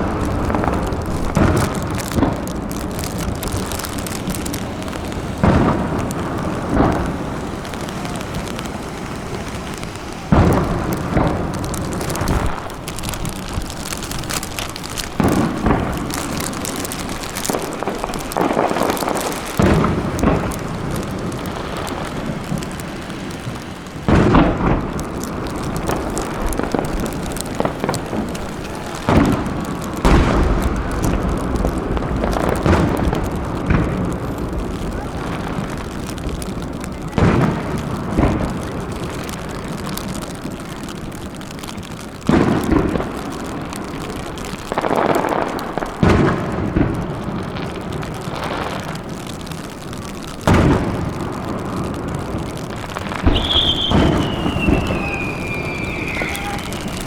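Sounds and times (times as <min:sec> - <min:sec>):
fireworks booming: 0:00.0 - 0:57.0
rain-like hiss: 0:00.0 - 0:57.0.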